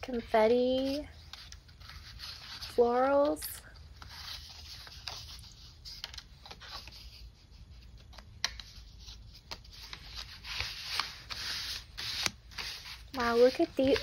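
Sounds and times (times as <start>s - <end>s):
paper pieces rustling and sliding: 0.0s - 14.0s.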